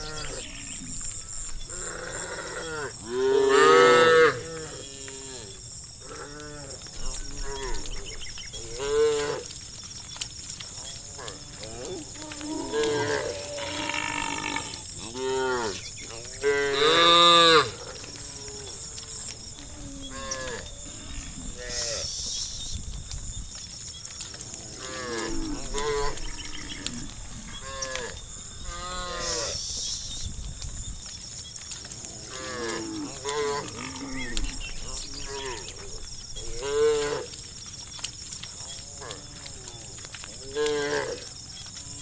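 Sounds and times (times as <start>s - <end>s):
herd of cattle mooing: 0.0s - 9.5s, 10.8s - 22.1s, 24.2s - 29.6s, 31.8s - 37.7s, 38.6s - 42.0s.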